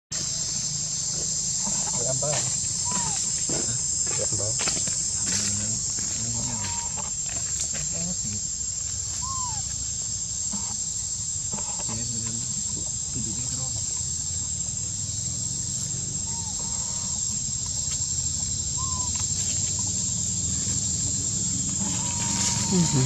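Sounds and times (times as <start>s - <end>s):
insects droning: 0.1s - 23.0s.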